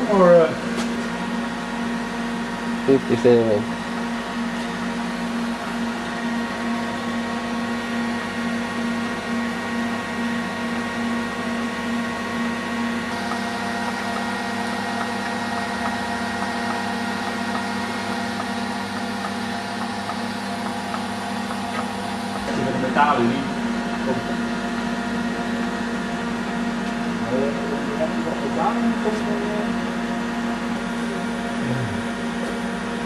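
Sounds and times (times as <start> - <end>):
welding equipment hum and hiss: 0.0 - 33.0.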